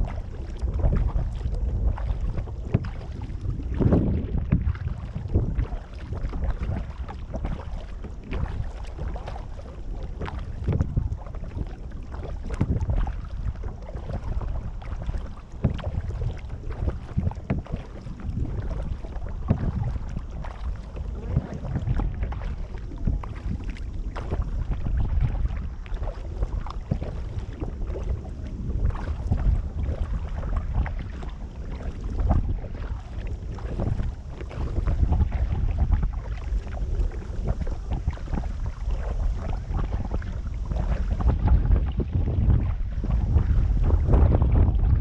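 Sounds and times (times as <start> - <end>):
paddle strokes splashing: 0.0 - 45.0
wind rumbling on microphone: 0.0 - 45.0.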